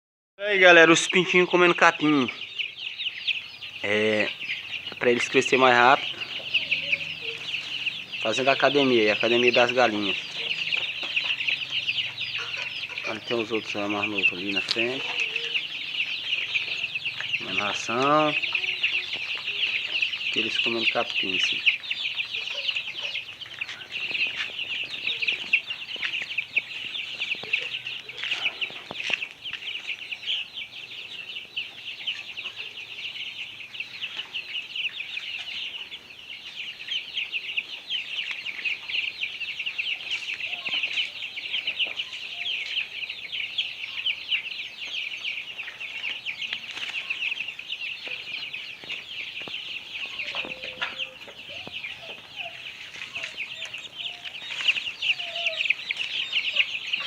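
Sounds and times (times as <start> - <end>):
chicks peeping: 0.4 - 57.0.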